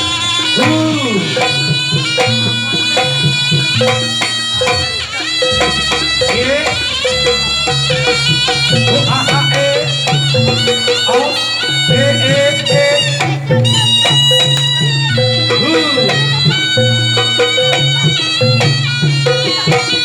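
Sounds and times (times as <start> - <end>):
reedy shawm melody: 0.0 - 20.0
repeating drums: 0.0 - 20.0.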